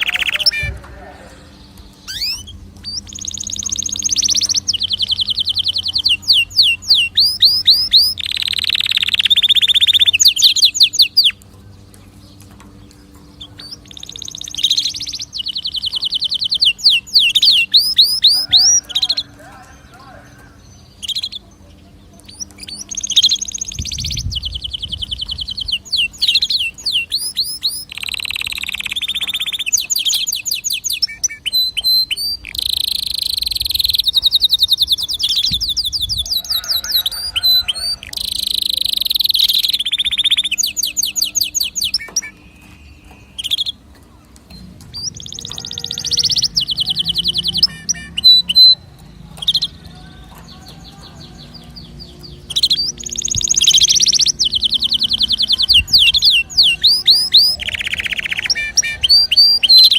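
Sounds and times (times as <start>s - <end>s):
canary singing fast trills: 0.0s - 59.9s.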